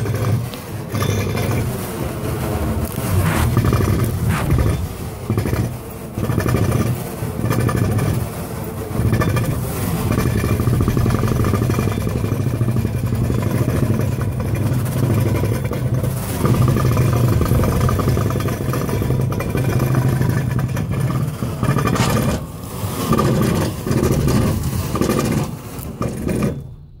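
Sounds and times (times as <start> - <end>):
industrial machine with spinning rolls: 0.0 - 27.0.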